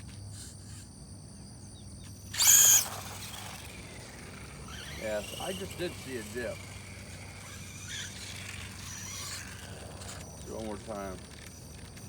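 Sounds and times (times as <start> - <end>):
crickets chirring: 0.1 - 12.0
electric motor high whine: 2.0 - 12.0.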